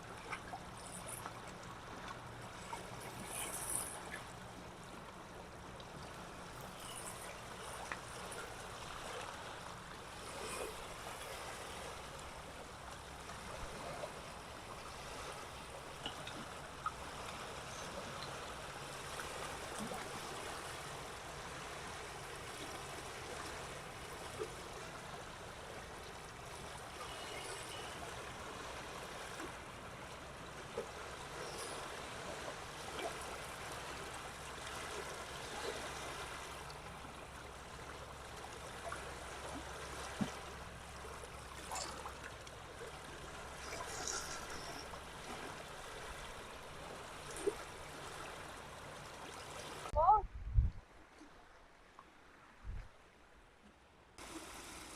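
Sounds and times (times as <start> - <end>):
water lapping and trickling: 0.0 - 54.9.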